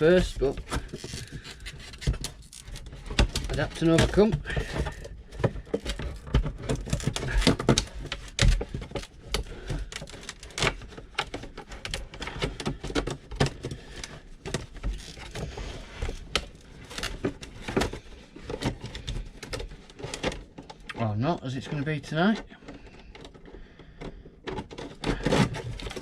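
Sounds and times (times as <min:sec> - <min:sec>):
clicks knocks and rattles of fittings: 0:00.0 - 0:26.0.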